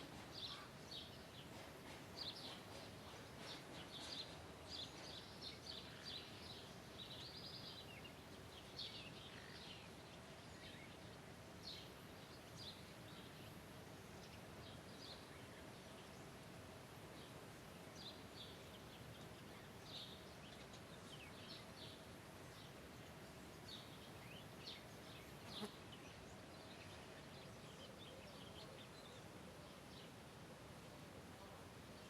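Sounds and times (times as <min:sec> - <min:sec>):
background hiss: 0:00.0 - 0:32.0.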